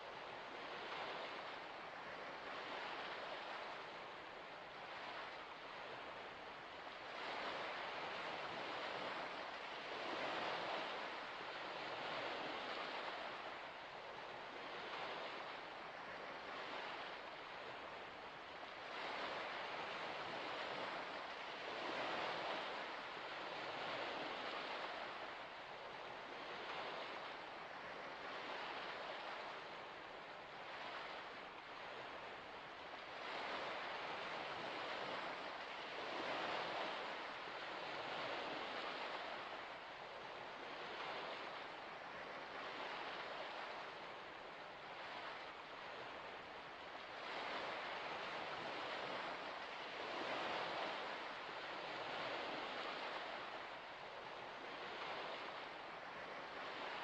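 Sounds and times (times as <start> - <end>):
small waves washing ashore: 0.0 - 57.0.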